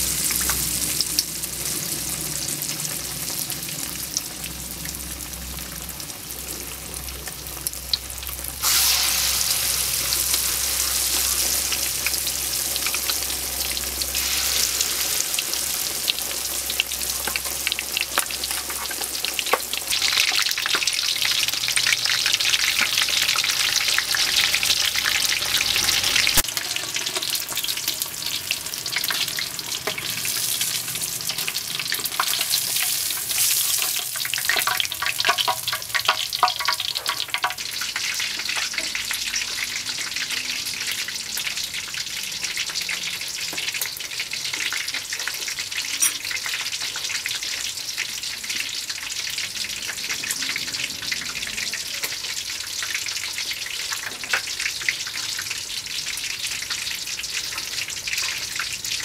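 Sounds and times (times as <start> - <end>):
chicken deep-frying in oil: 0.0 - 59.0.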